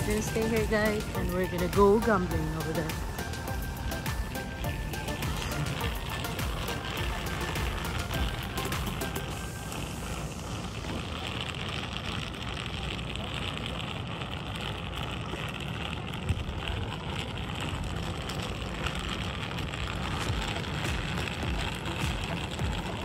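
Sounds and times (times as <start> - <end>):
suitcases rolling over asphalt: 0.0 - 23.0.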